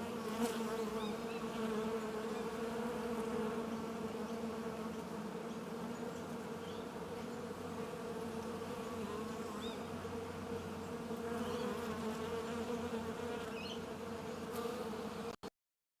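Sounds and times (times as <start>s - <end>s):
insects buzzing: 0.0s - 15.4s.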